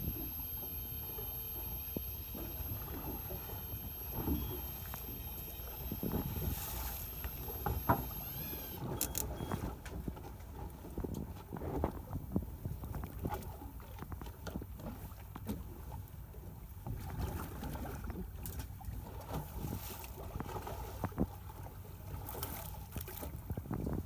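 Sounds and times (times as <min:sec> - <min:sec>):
water lapping against boat: 0:00.0 - 0:24.0.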